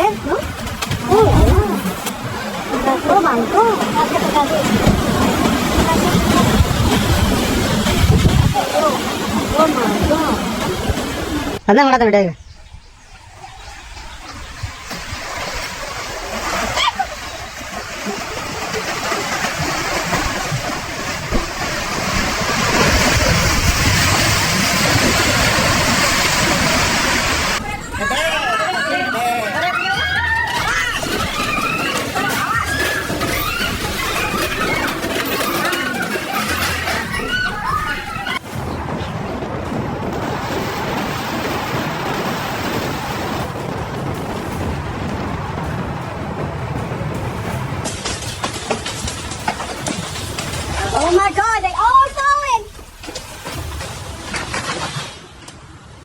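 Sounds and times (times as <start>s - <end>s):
rushing churning water: 0.0s - 11.6s, 13.8s - 56.0s.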